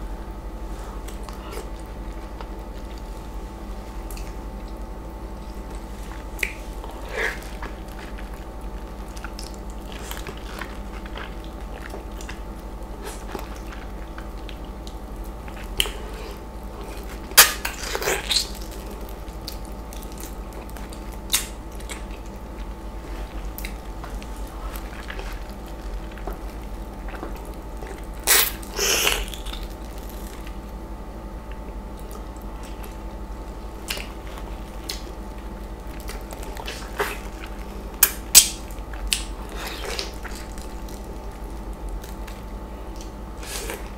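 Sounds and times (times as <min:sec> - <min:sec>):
wet biting and chewing: 0:04.0 - 0:30.7, 0:31.4 - 0:43.9.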